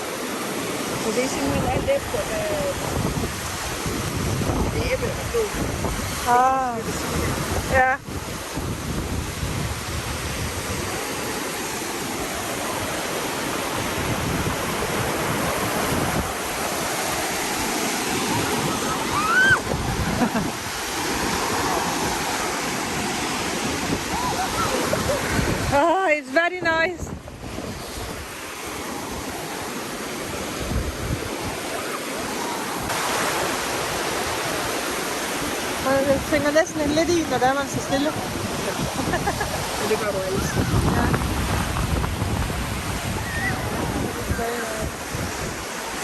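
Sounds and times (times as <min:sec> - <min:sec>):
small waves washing on beach: 0:00.0 - 0:46.0
wind on microphone: 0:00.0 - 0:46.0.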